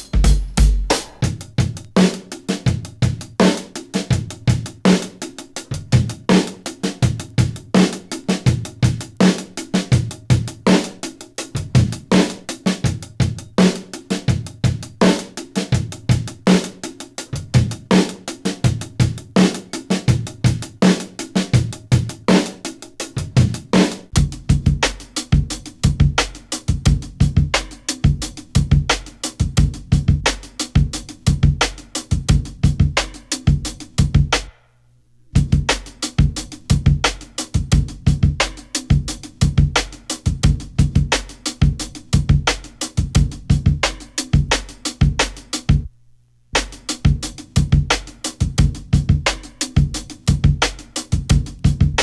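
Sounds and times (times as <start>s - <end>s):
bass drum and snare beat: 0.0s - 34.7s, 35.3s - 45.9s, 46.6s - 52.0s.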